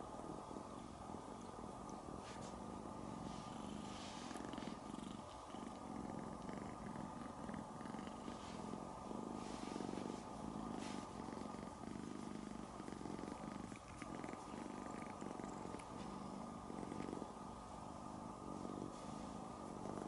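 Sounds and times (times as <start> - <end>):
kitten purring: 0.0 - 20.0.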